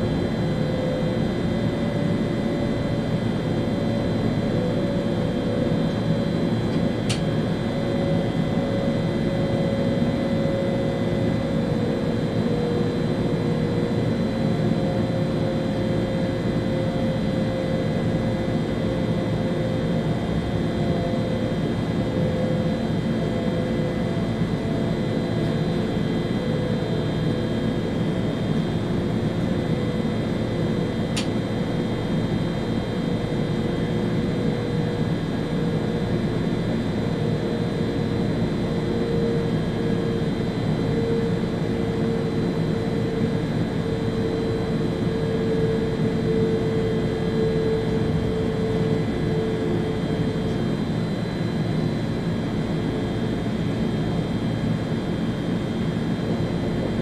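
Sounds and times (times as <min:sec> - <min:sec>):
train cab rumble and hum: 0:00.0 - 0:57.0.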